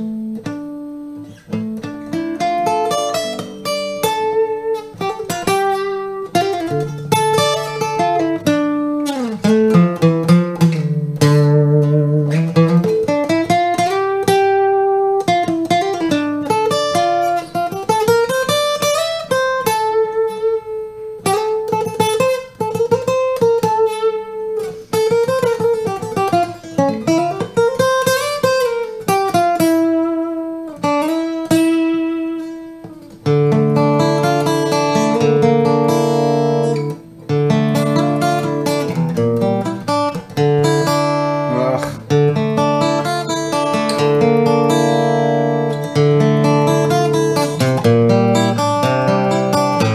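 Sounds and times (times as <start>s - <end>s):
acoustic guitar fingerstyle: 0.0s - 49.9s.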